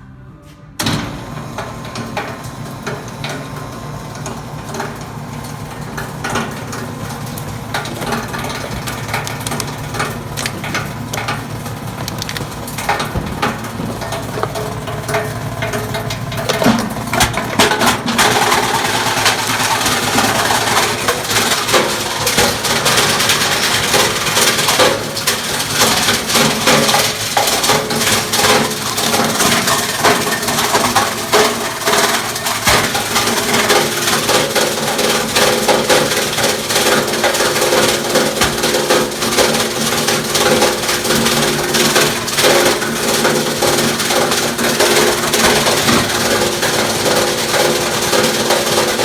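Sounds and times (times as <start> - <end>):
granulator chopping plastic bottles: 6.3 - 49.0.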